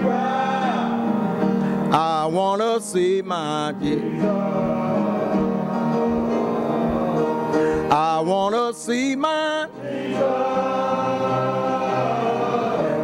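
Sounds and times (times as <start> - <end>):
person singing: 1.9 - 13.0.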